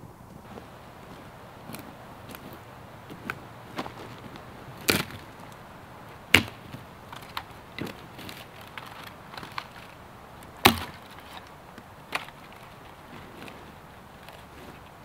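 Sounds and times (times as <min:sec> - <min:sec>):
twigs crackling: 0:00.2 - 0:15.0
dry branches snapping: 0:00.4 - 0:15.0.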